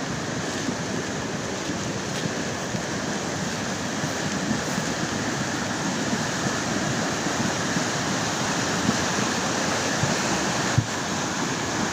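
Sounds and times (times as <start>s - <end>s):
rushing floodwater: 0.0s - 11.9s.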